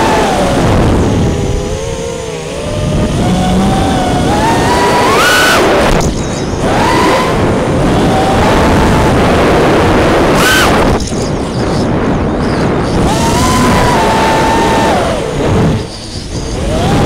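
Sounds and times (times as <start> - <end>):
drone motors whining: 0.0 - 17.0
propeller and wind noise: 0.0 - 17.0.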